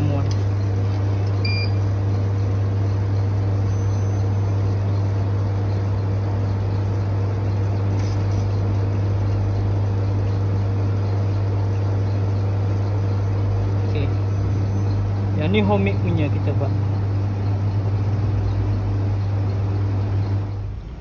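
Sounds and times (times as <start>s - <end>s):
ice cream machine humming: 0.0s - 21.0s.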